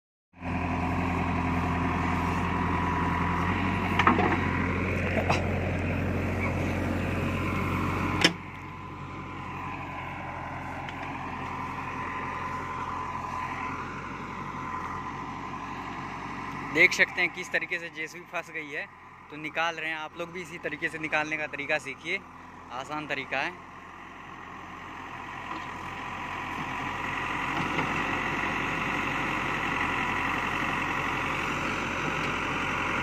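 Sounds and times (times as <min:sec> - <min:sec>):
diesel engine running hard: 0:00.4 - 0:33.0.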